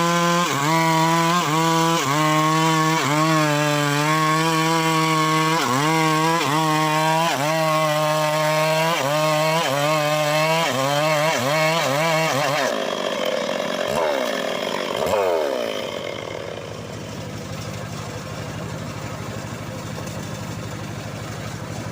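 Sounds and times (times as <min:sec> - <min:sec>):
chainsaw cutting wood: 0:00.0 - 0:21.9.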